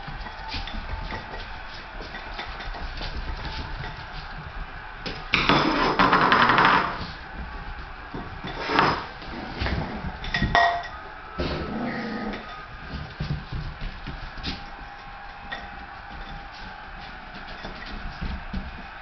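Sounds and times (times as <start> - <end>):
plastic basket clattering on tile floor: 0.0 - 16.7.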